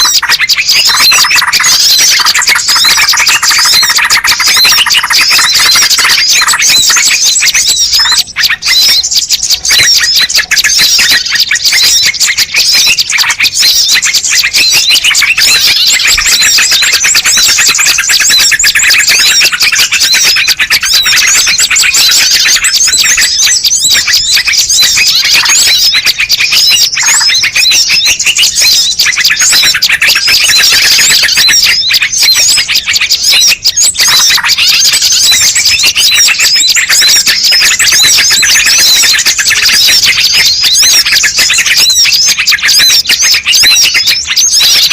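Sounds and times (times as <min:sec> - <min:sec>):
many small birds twittering: 0:00.0 - 0:44.9.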